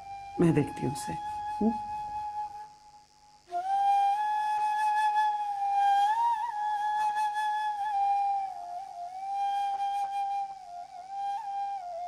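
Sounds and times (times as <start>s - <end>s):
solo flute long held notes: 0.0s - 12.0s.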